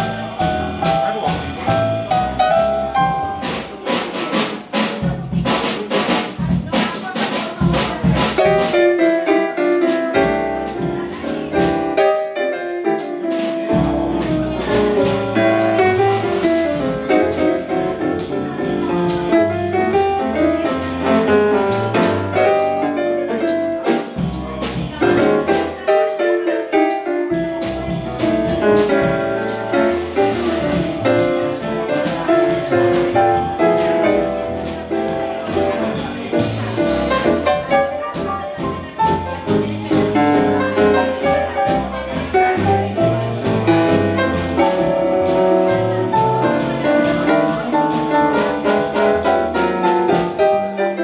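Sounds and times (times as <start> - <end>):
drum kit: 0.0 - 51.0
stage piano: 0.0 - 51.0
upright double bass: 0.0 - 51.0.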